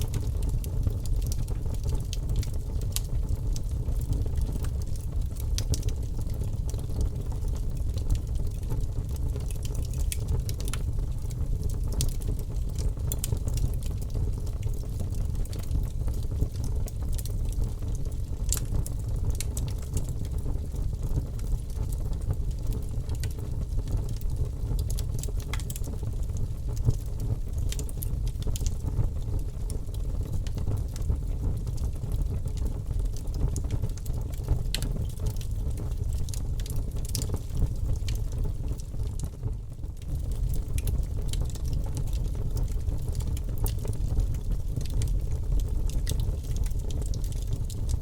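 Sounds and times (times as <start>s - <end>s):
bonfire rumbling: 0.0s - 48.0s
fire crackling and popping: 0.0s - 48.0s.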